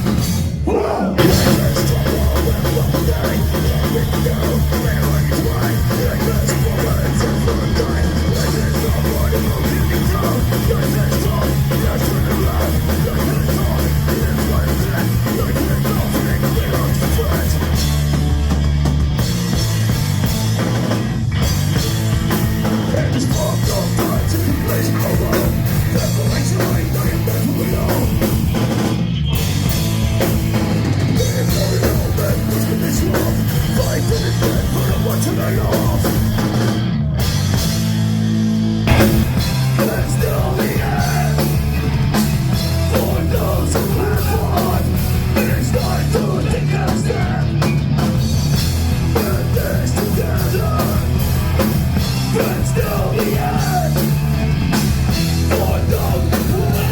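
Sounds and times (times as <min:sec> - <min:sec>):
heavy rock music: 0:00.0 - 0:56.9.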